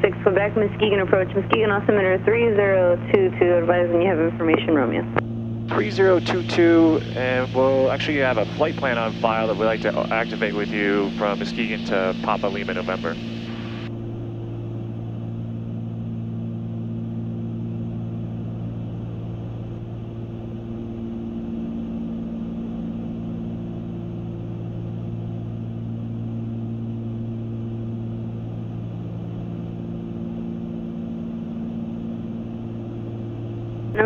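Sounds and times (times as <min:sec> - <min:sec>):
airplane engines droning: 0:00.0 - 0:34.0.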